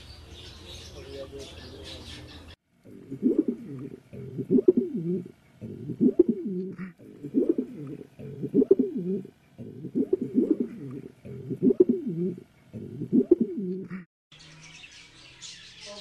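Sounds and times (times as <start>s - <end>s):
pigeons cooing: 0.7s - 14.1s.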